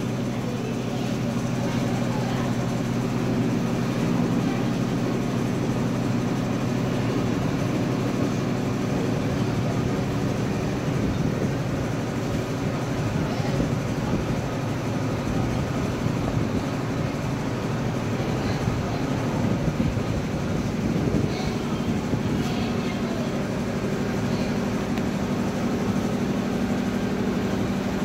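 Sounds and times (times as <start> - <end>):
constant low hum: 0.0 - 28.0.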